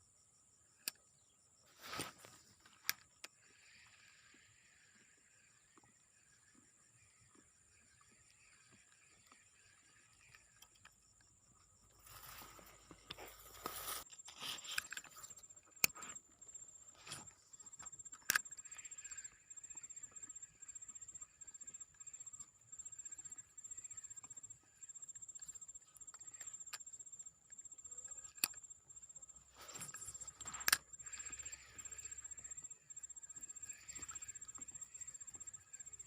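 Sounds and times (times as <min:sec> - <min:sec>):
insects chirping chorus: 0:00.0 - 0:36.0.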